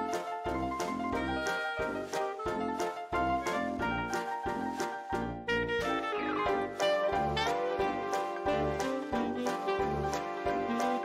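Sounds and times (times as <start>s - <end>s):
upbeat jazz music with horns: 0.0s - 11.0s.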